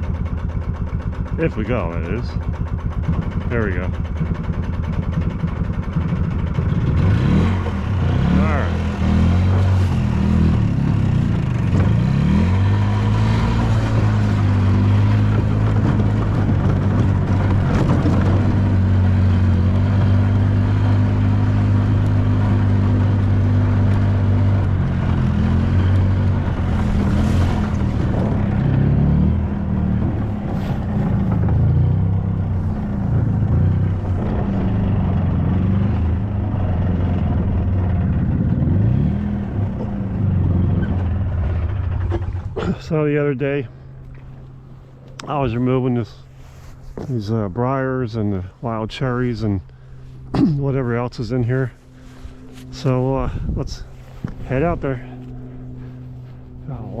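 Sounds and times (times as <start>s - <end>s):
small farm vehicle engine running: 0.0s - 57.0s.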